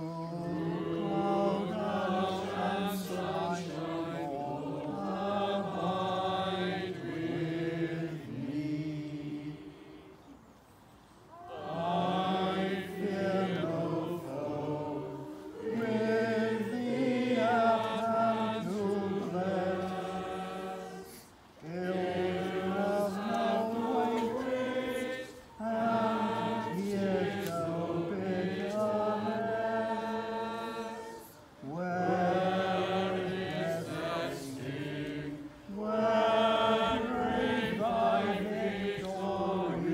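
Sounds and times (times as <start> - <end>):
church choir singing: 0.0 - 10.7, 11.3 - 39.9.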